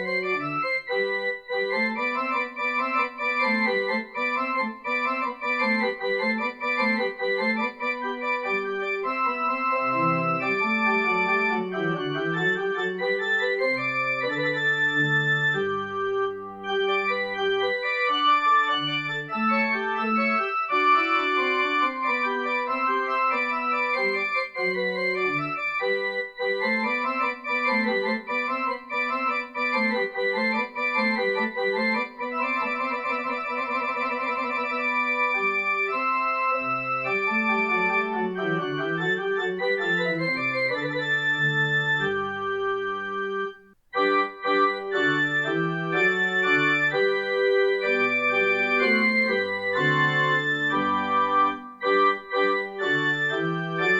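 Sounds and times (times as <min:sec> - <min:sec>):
instrumental keyboard music: 0:00.0 - 0:53.9.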